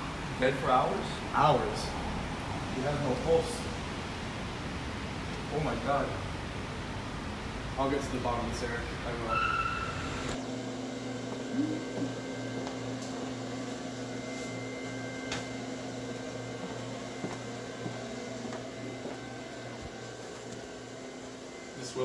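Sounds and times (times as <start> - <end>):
photocopier humming with whine: 0.0 - 22.0.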